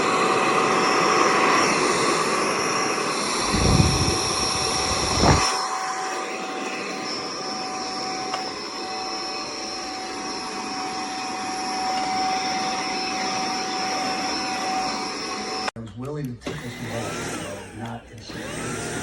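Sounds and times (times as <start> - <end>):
stick vacuum whining: 0.0 - 19.0.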